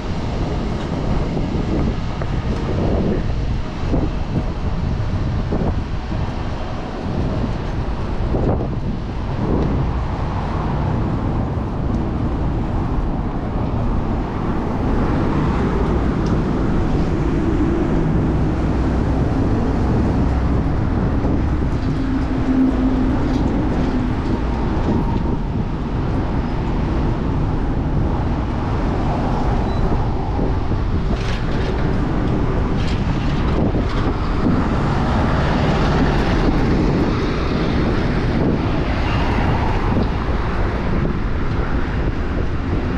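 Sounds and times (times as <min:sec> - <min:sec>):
city traffic passing: 0:00.0 - 0:42.9
vehicle engine humming: 0:00.0 - 0:42.9
wind on microphone: 0:00.0 - 0:42.9.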